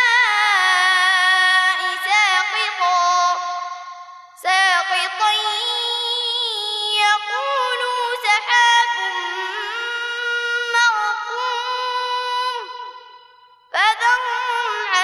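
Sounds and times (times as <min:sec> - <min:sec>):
boy chanting melodically: 0:00.0 - 0:15.0.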